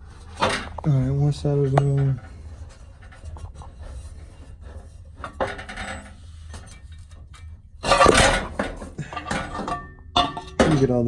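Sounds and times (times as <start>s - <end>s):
low steady hum: 0.0s - 11.0s
metal exhaust parts clinking: 0.0s - 11.0s.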